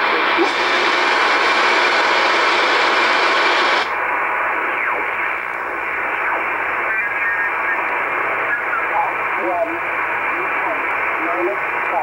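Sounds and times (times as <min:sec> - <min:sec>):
shortwave radio static and hiss: 0:00.0 - 0:12.0.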